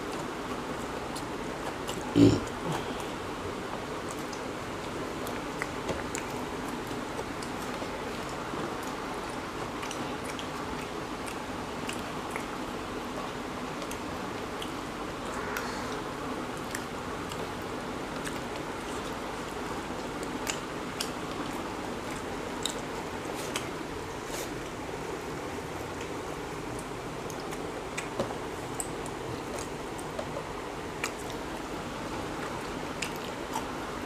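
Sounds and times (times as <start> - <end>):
people chewing with mouth smacks: 0.0 - 34.0
steady background noise: 0.0 - 34.0.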